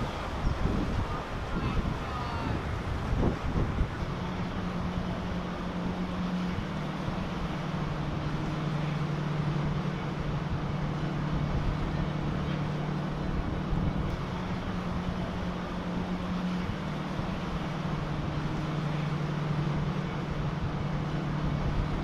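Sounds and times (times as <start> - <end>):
wind noise on microphone: 0.0 - 8.6, 9.4 - 22.0
boat engine droning: 0.0 - 22.0.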